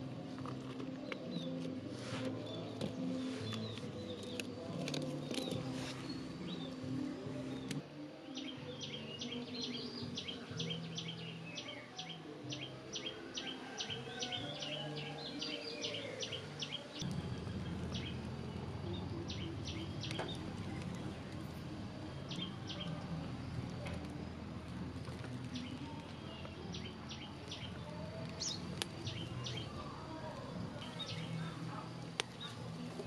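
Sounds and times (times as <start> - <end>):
low background noise: 0.0 - 33.0
small birds chirping: 0.1 - 33.0.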